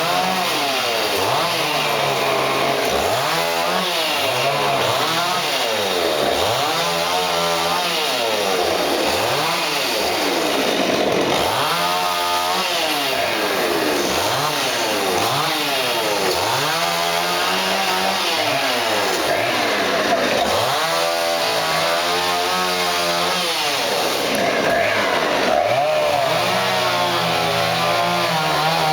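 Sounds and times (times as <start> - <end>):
chainsaw revving: 0.0 - 28.9.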